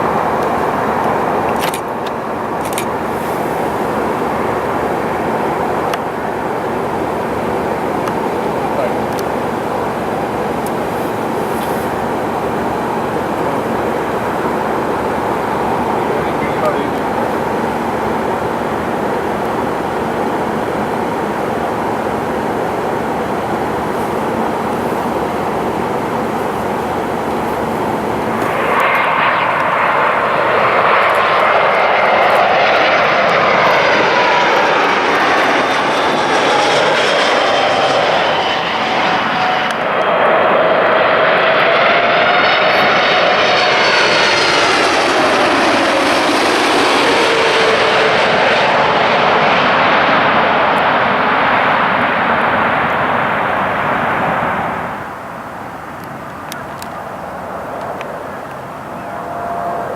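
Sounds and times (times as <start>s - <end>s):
jet airliner passing: 0.0s - 59.9s.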